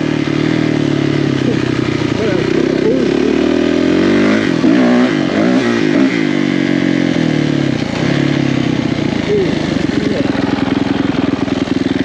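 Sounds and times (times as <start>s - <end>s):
racing engine revving: 0.0s - 12.0s.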